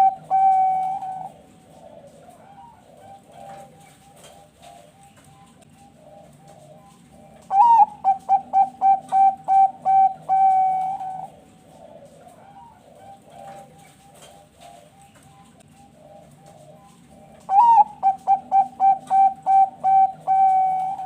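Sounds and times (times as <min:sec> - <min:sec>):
dove cooing song: 0:00.0 - 0:21.0
other doves cooing softly: 0:00.0 - 0:21.0.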